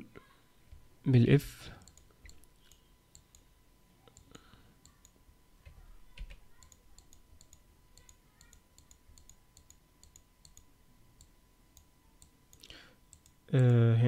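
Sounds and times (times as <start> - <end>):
computer mouse clicks: 1.8 - 3.5, 4.1 - 13.8.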